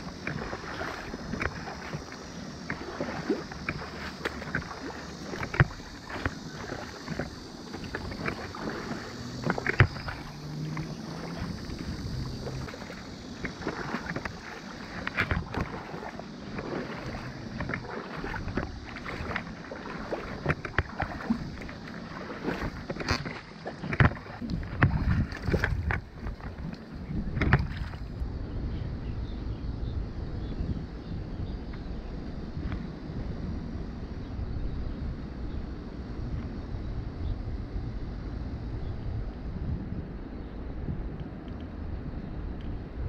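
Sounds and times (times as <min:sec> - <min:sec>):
river water lapping and splashing: 0:00.0 - 0:43.0
wind rumbling on microphone: 0:00.0 - 0:43.0.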